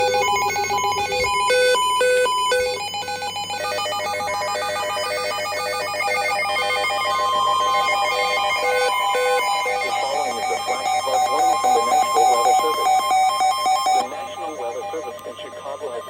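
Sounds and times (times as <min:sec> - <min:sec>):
electronic alert tones: 0:00.0 - 0:16.0.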